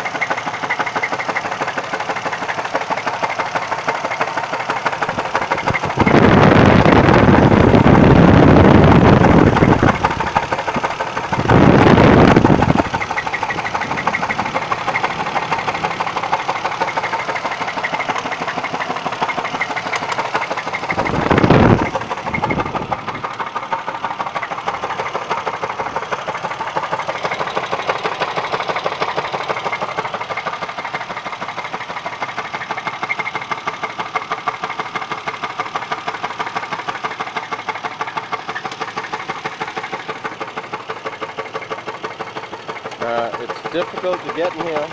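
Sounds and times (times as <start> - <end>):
engine knocking: 0.0 - 44.9.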